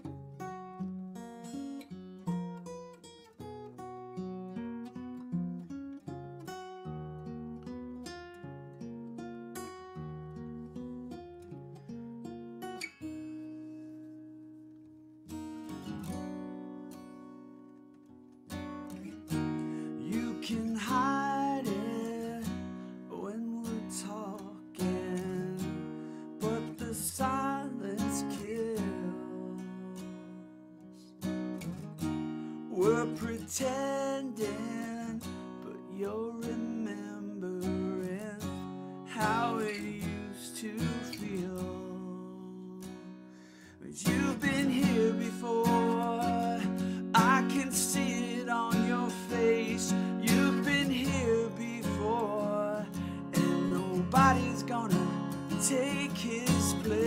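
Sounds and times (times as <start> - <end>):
acoustic guitar strumming: 0.0 - 57.0.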